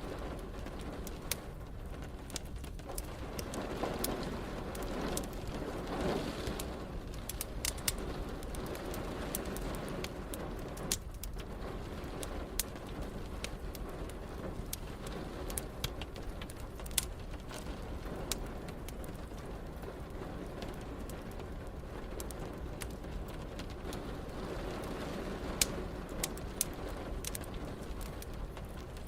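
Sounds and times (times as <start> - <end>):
rain hissing: 0.0 - 29.0
wood fire crackling: 0.0 - 29.0.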